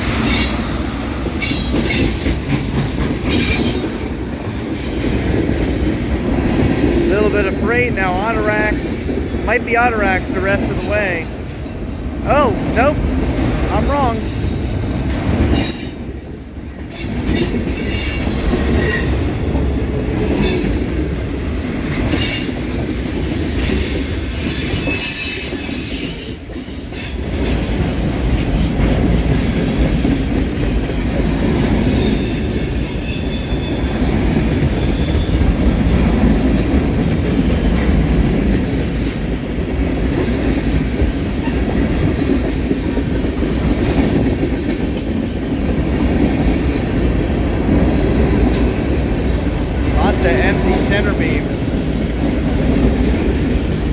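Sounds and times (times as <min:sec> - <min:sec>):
rumble of wheels on rail: 0:00.0 - 0:09.5, 0:10.2 - 0:53.9.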